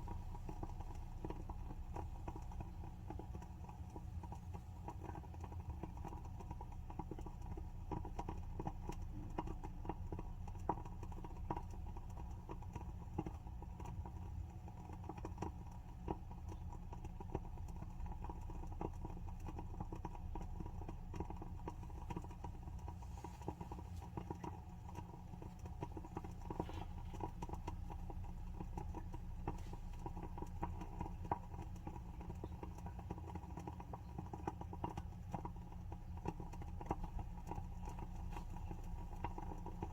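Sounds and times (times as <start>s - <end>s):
candle wick crackling: 0.0s - 39.9s.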